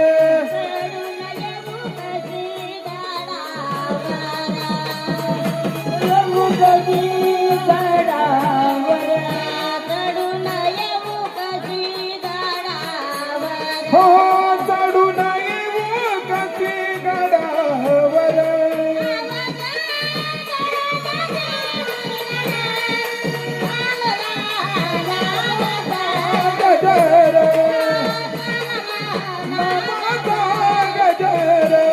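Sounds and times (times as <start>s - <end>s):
instrumental accompaniment: 0.0s - 31.9s
steady drum beat: 0.0s - 31.9s
woman singing: 0.0s - 31.9s.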